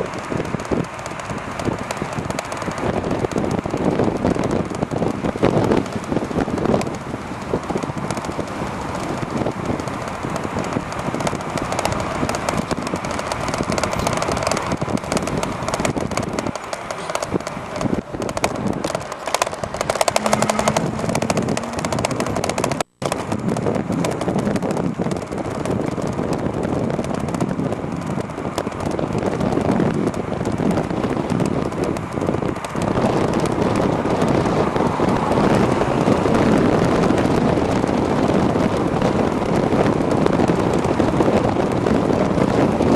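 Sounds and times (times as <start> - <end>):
e-bike road noise: 0.0 - 42.9
rapid rattling: 0.0 - 42.9
wind on microphone: 0.0 - 42.9.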